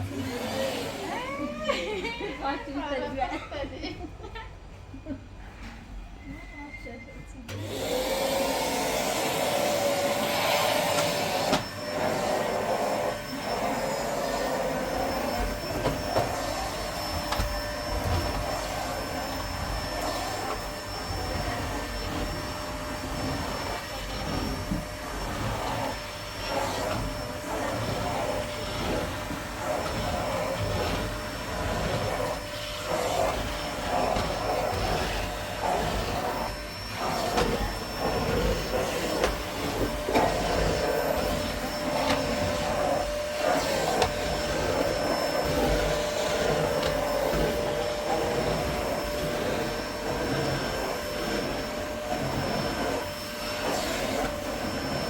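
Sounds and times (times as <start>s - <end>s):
vacuum cleaner on carpet: 0.0s - 4.3s, 6.6s - 55.0s.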